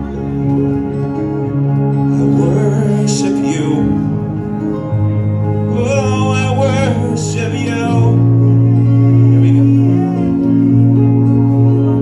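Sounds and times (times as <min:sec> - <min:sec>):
sustained keyboard chords: 0:00.0 - 0:12.0
person singing: 0:01.7 - 0:12.0.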